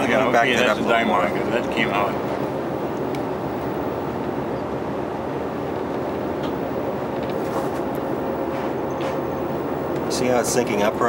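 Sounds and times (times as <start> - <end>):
steady mechanical drone: 0.0 - 11.0.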